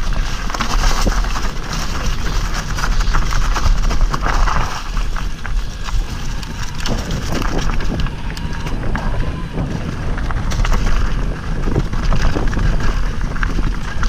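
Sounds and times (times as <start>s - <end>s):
bike rattling and knocking: 0.0s - 14.0s
tyre noise on dirt: 0.0s - 14.0s
wind rumble on microphone: 0.0s - 14.0s.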